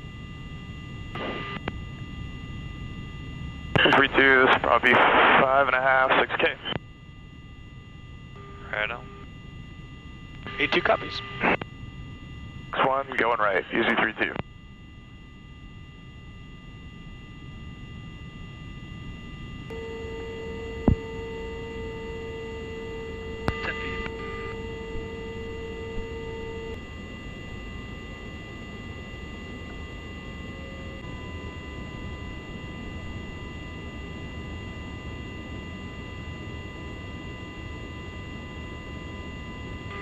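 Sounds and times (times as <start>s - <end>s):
electrical hum: 0.0s - 40.0s
whining tones: 0.0s - 40.0s.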